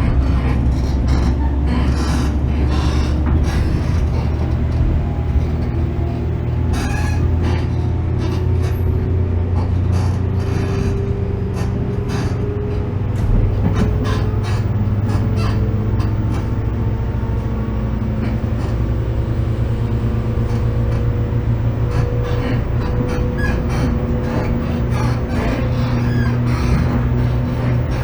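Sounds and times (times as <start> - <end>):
train interior rumble: 0.0 - 28.0
wheels clicking over rail joints: 0.0 - 28.0.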